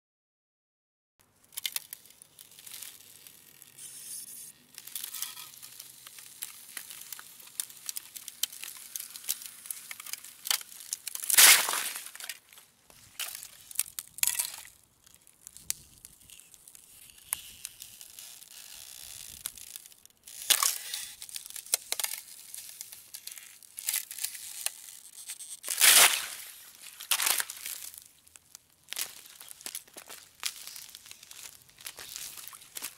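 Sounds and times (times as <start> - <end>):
ice crackling and snapping: 1.3 - 32.9
sharp ice cracks: 1.4 - 32.9.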